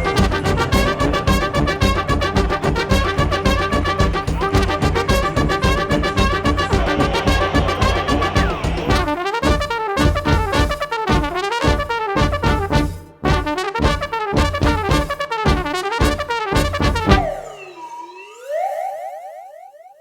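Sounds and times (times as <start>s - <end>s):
brass music with steady beat: 0.0s - 17.7s.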